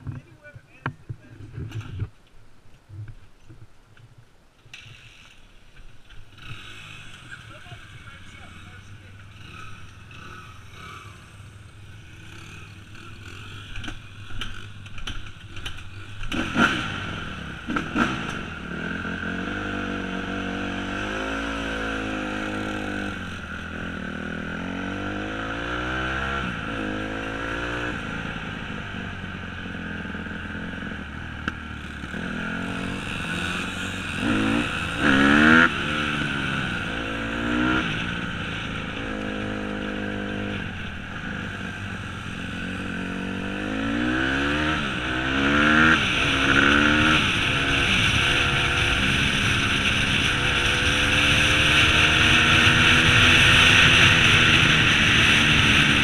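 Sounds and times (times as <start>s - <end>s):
dirt bike engine revving: 6.3s - 56.0s.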